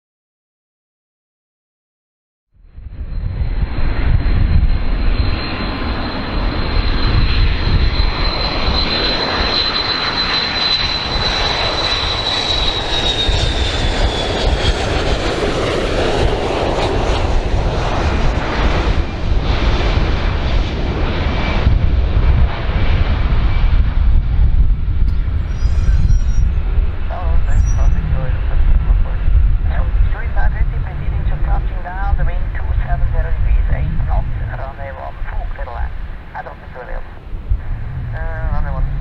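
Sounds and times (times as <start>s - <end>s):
jet engines whining and rumbling: 2.6s - 39.0s.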